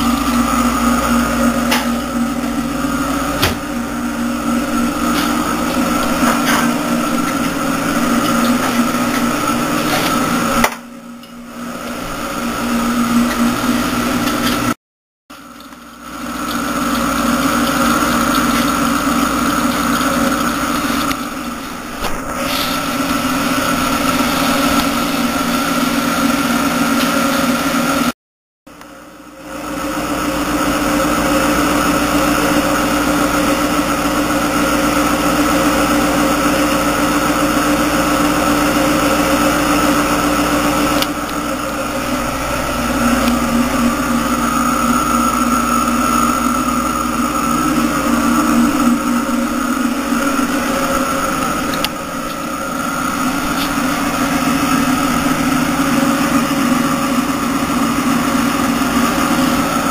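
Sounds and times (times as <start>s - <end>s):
aquarium filter motor hum: 0.0s - 28.1s, 28.7s - 59.9s.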